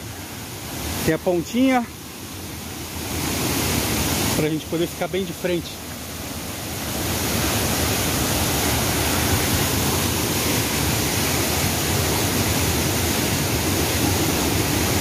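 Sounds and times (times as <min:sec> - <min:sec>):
river and waterfall rushing: 0:00.0 - 0:15.0.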